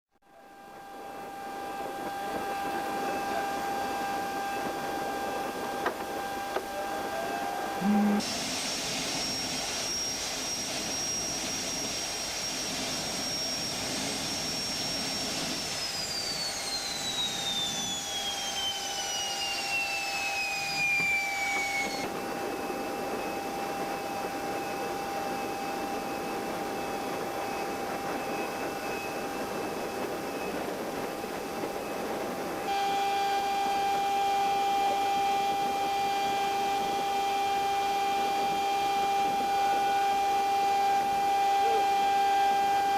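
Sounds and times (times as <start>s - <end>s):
jet engine turbine whine: 0.2s - 42.9s
hum: 0.3s - 42.9s.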